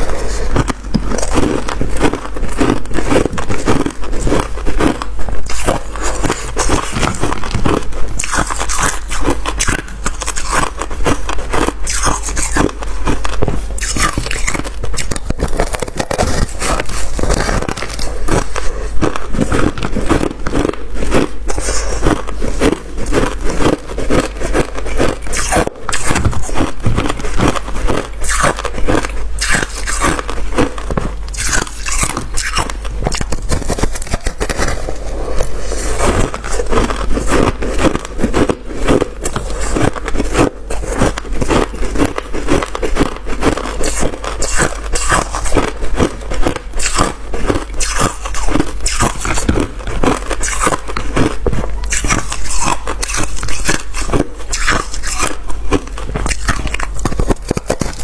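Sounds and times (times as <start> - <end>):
scrape: 0.0 - 4.5, 5.4 - 30.4, 31.4 - 58.0
frost crunching being chewed: 0.0 - 58.0.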